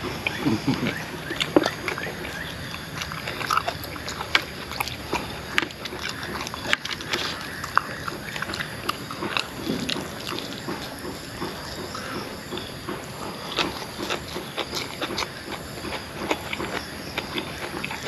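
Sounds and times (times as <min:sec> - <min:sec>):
man chewing and lip smacking: 0:00.0 - 0:18.0.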